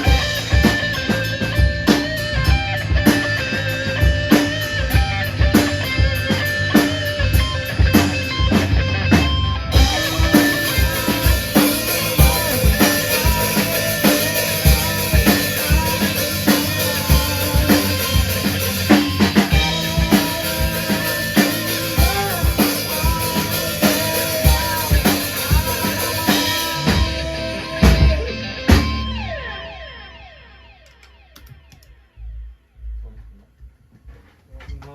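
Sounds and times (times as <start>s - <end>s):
rock band playing: 0.0s - 31.7s.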